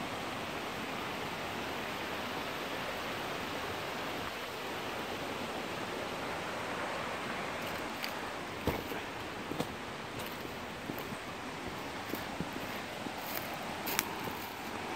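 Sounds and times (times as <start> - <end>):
creek water rushing: 0.0 - 14.9.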